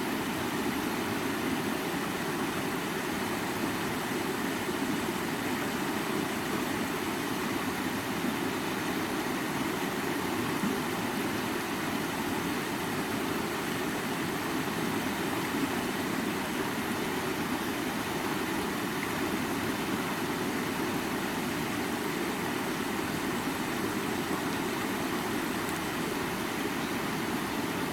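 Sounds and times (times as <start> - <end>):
creek water flowing over rocks: 0.0 - 27.9.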